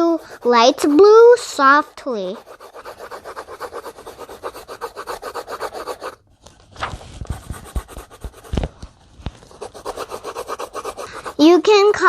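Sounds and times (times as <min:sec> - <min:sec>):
pencil scribbling on paper: 0:00.0 - 0:06.2, 0:07.3 - 0:08.7, 0:09.4 - 0:12.0.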